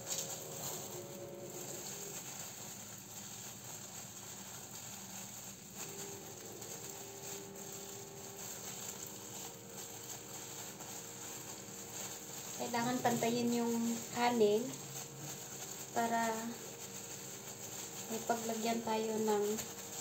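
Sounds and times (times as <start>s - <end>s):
gloved hands rustling and patting: 0.0s - 20.0s
room hiss: 0.0s - 20.0s.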